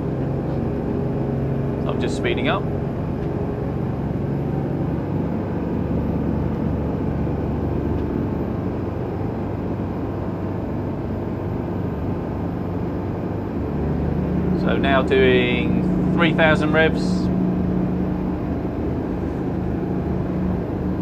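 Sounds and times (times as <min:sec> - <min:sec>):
boat diesel engines humming: 0:00.0 - 0:21.0.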